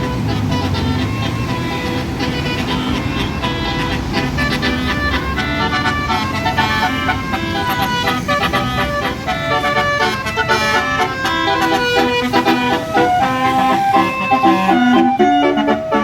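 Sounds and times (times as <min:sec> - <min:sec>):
bus engine: 0:00.0 - 0:16.0
multi-trumpet air horn tune: 0:00.0 - 0:16.0.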